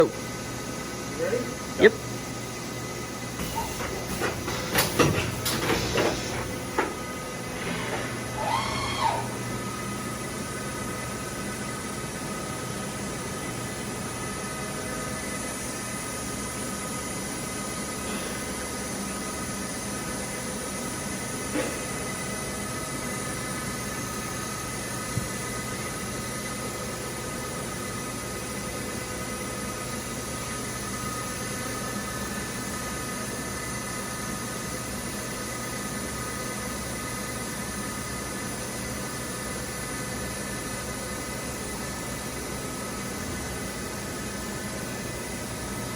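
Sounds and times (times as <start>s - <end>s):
machine equipment hum and hiss: 0.0s - 45.9s.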